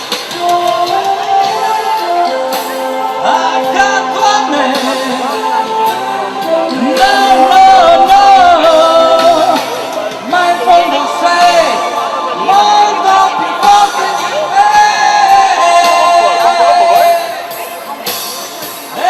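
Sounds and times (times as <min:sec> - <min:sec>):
pop backing track with guitar and drums: 0:00.0 - 0:19.0.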